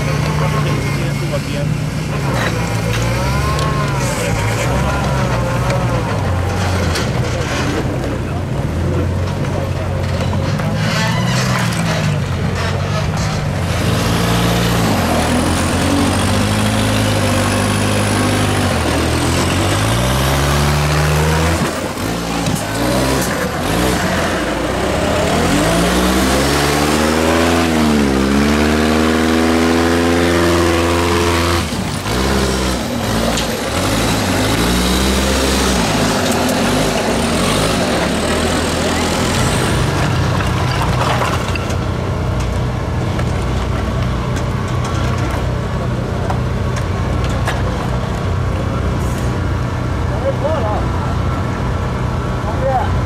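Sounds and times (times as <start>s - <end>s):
buggy engine revving: 0.0s - 53.0s.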